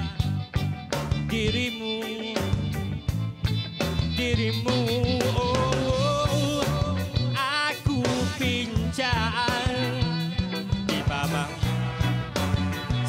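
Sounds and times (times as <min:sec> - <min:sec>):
pop song with drum beat: 0:00.0 - 0:13.0.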